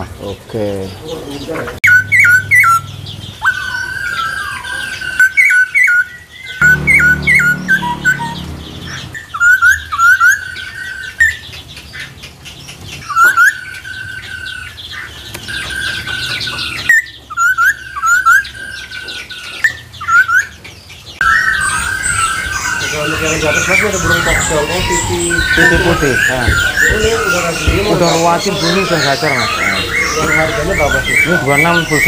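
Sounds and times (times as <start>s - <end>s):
songbirds chirping: 0.0s - 32.0s.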